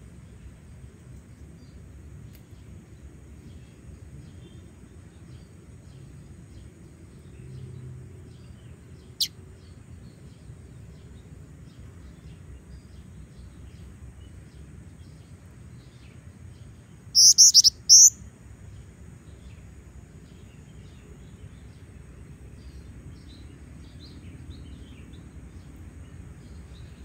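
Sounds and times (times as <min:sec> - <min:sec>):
bird chirp: 0:00.1 - 0:27.0.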